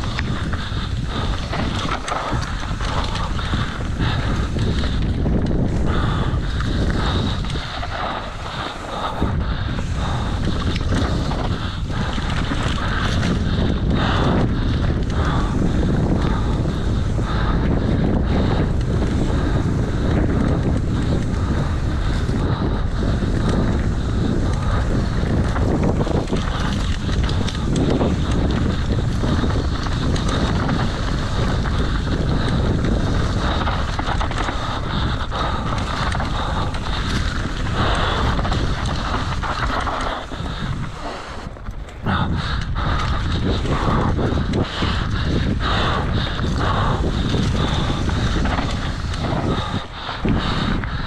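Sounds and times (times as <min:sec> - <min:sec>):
rattles and clicks: 0:00.0 - 0:51.0
steady low rumble: 0:00.0 - 0:51.0
wind rushing over microphone: 0:00.0 - 0:51.0.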